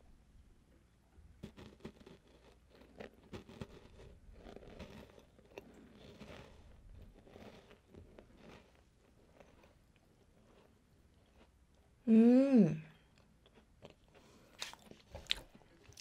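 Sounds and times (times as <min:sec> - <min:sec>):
crisp chewing of a cookie: 0:01.4 - 0:12.0, 0:13.0 - 0:16.0.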